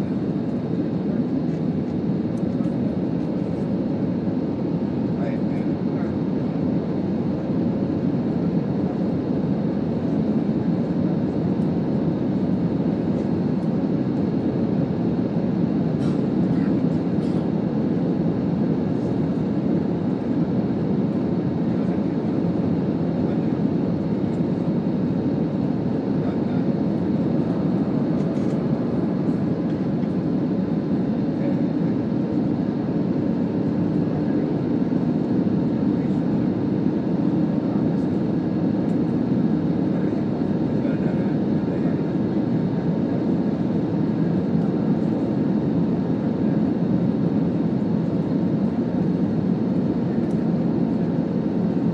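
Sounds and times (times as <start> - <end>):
airliner cabin engine roar: 0.0 - 51.9.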